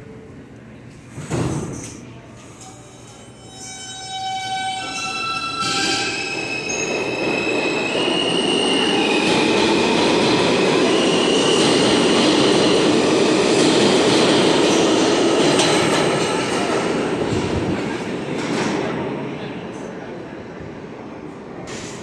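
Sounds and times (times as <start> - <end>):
subway train rumbling on rails: 0.0 - 22.0.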